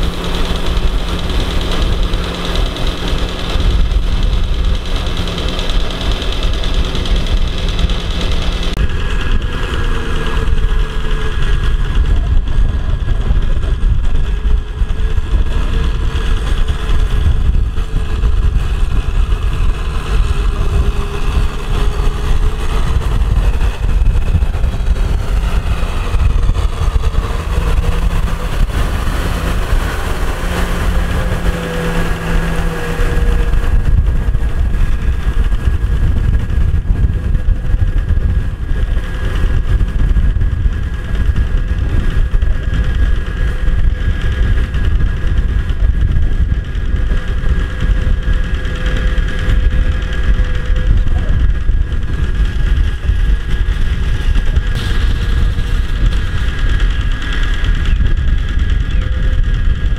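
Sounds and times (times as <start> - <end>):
rotavator churning wet mud: 0.0 - 59.9
tractor diesel engine under load: 0.0 - 59.9.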